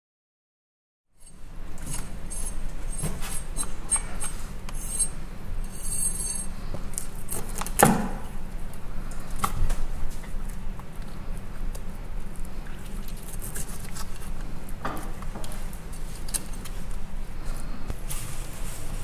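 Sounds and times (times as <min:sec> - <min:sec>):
steady low hum: 0:01.2 - 0:19.0.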